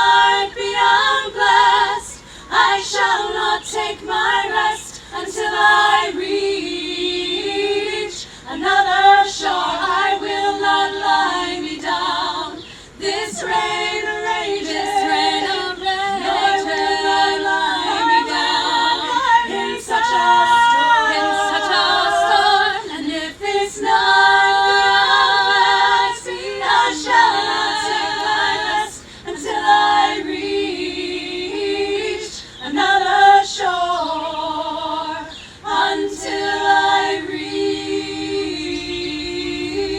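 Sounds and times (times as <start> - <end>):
group singing a cappella: 0.0 - 39.9.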